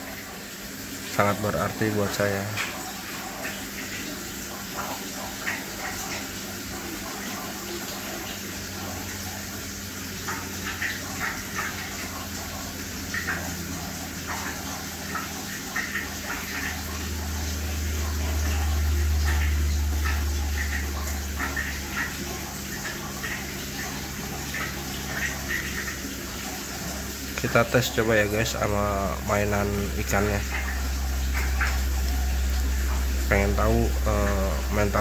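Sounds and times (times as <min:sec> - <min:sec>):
aquarium water trickling: 0:00.0 - 0:35.0
pump hum: 0:00.0 - 0:35.0.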